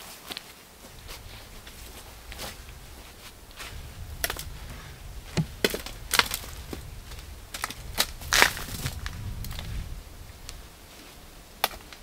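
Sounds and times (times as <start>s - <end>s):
hands rustling through soil: 0.0s - 12.0s
low rumble: 0.8s - 10.7s.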